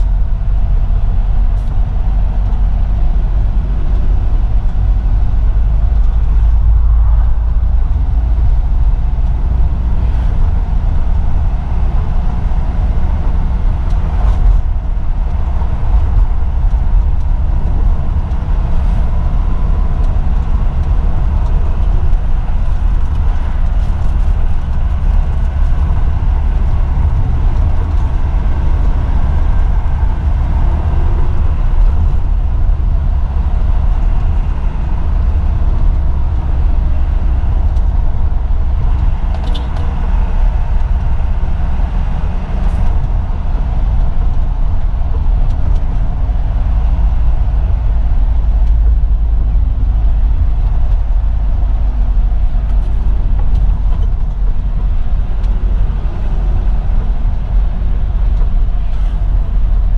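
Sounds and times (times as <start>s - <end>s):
diesel engine running: 0.0s - 59.9s
road and tyre noise: 0.0s - 59.9s.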